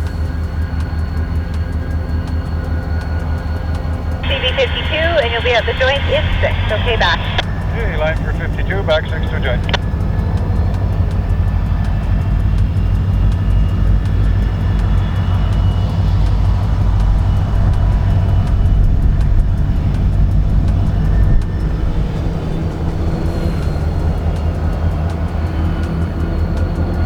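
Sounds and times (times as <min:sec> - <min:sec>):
diesel locomotive engine drone: 0:00.0 - 0:27.0.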